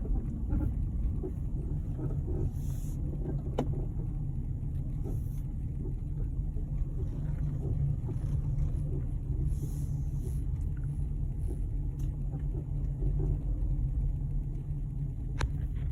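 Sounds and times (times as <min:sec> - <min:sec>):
car driving rumble: 0:00.0 - 0:15.9.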